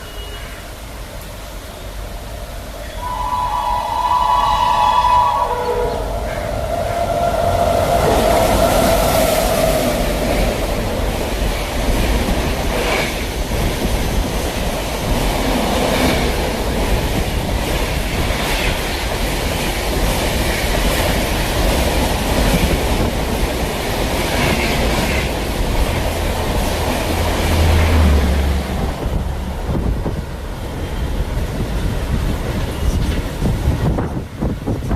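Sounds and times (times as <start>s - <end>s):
train rushing roar: 0.0s - 34.9s.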